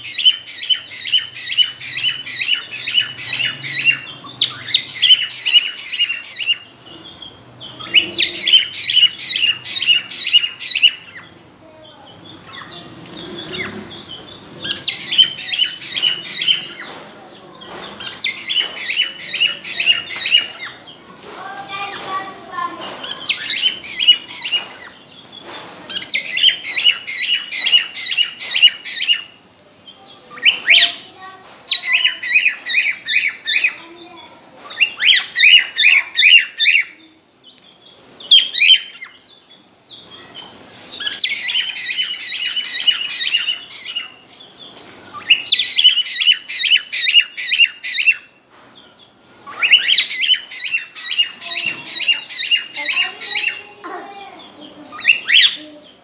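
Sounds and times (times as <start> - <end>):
cockatiels chirping: 0.0 - 29.4, 30.2 - 39.4, 40.0 - 48.3, 49.4 - 55.8.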